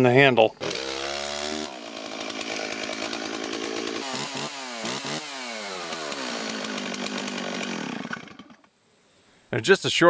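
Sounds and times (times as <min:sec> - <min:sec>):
chainsaw engine revving: 0:00.6 - 0:08.7.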